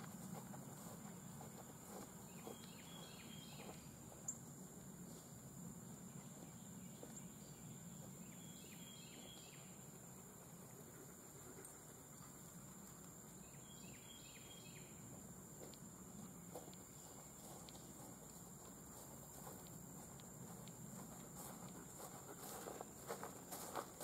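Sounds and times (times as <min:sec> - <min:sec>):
insect chirps: 0:01.2 - 0:24.0.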